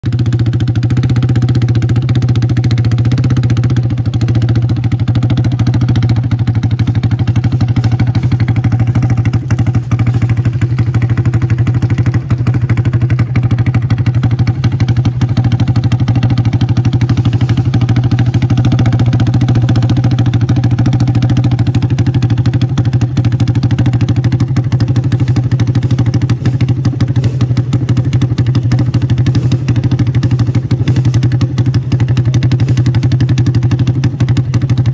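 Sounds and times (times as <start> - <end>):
quad engine idling: 0.0 - 34.9.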